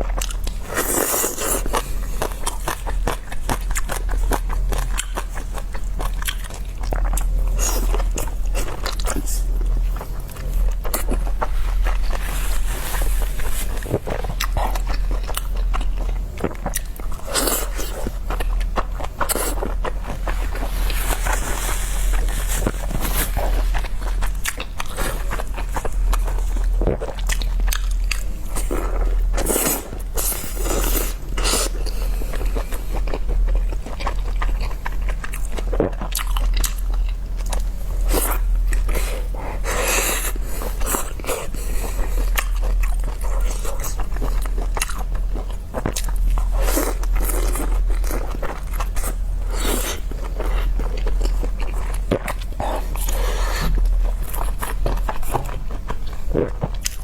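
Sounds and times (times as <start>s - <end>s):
chewing with wet mouth clicks: 0.0s - 12.1s, 13.9s - 20.3s, 23.5s - 39.8s, 40.8s - 57.0s
steady low hum: 0.0s - 57.0s.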